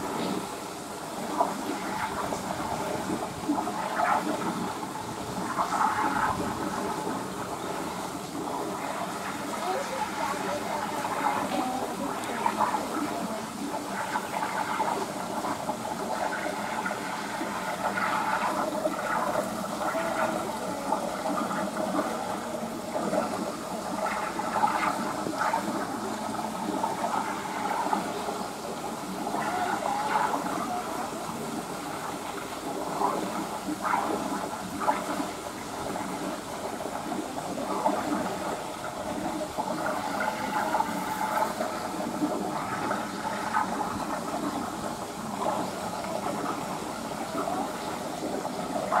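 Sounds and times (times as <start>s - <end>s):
running water pouring into pool: 0.0s - 49.0s.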